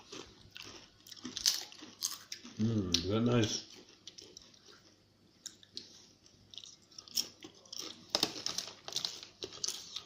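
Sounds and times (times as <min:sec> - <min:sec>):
crunching tortilla chips: 0:00.0 - 0:05.9, 0:06.5 - 0:10.0.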